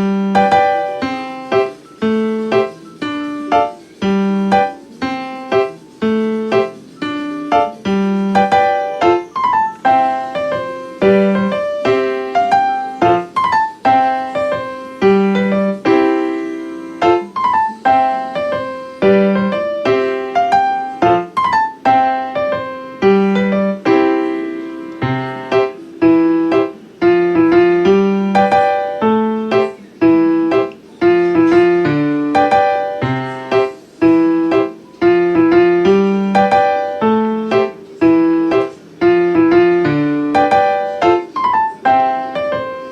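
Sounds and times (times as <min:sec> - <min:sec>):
piano melody with chords: 0:00.0 - 0:42.9.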